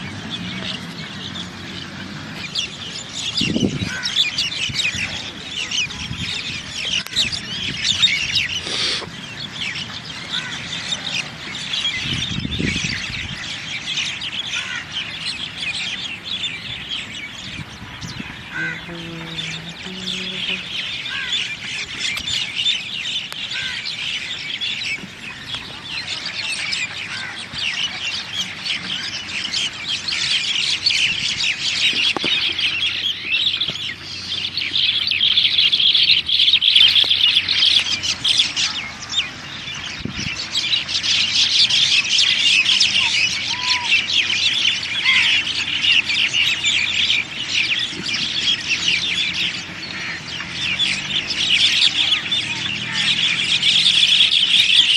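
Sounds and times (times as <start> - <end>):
birds chirping and squawking: 0.0 - 54.9.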